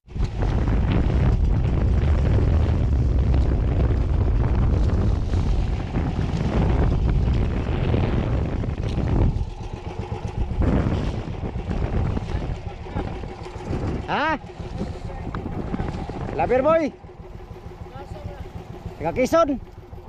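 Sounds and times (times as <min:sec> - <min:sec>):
boat engine rumble: 0:00.0 - 0:20.0
wind buffeting microphone: 0:00.0 - 0:20.0.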